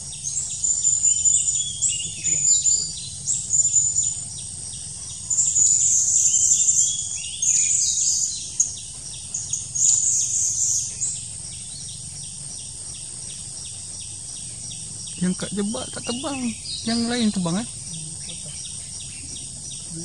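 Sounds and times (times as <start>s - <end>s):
parrots chirping: 0.0s - 20.0s.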